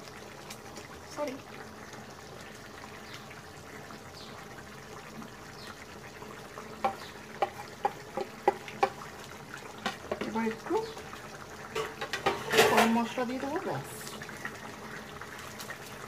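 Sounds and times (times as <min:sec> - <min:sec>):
curry simmering and sizzling: 0:00.0 - 0:16.0.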